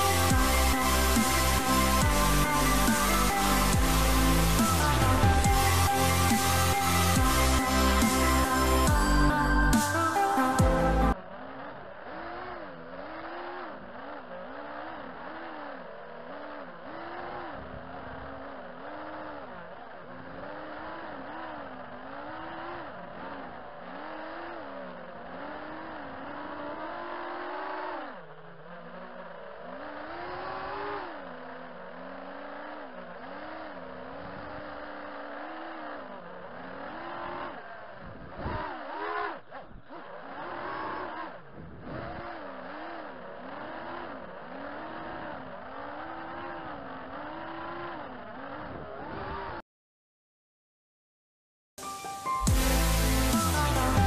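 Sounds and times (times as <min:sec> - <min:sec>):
drone motors buzzing whine: 0:00.0 - 0:49.6.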